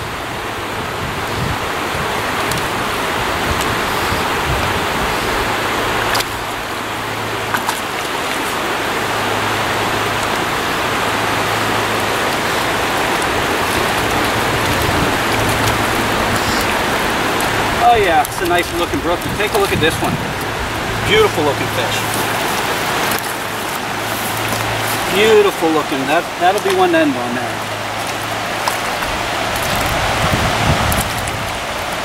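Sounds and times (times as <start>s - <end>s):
stream running: 0.0s - 32.0s.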